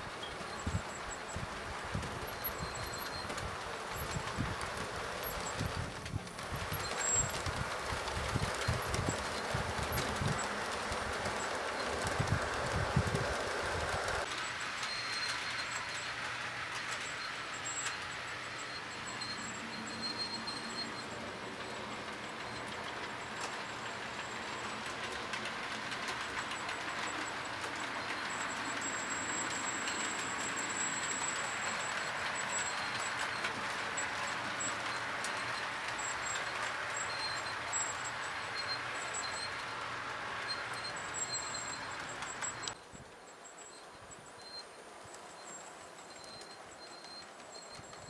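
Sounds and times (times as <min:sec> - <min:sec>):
model train rolling on track: 0:00.0 - 0:48.0
wheels clicking over rail joints: 0:00.0 - 0:48.0.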